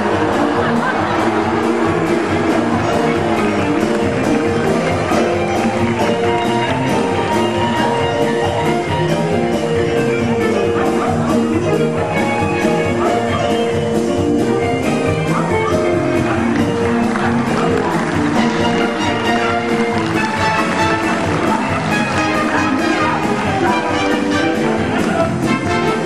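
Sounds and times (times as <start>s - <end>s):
lively music with steady beat: 0.0s - 26.0s.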